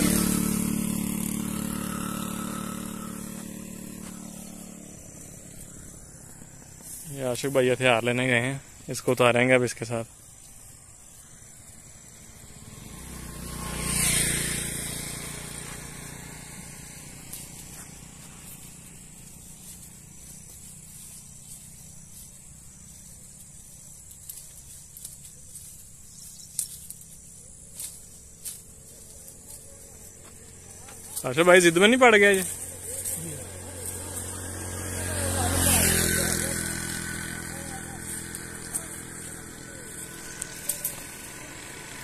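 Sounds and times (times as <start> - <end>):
vehicle passing by: 0.0 - 42.0.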